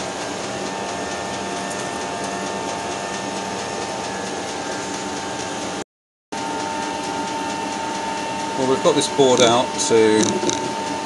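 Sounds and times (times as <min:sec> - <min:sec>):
metal lathe gear whine: 0:00.0 - 0:05.8, 0:06.4 - 0:11.0.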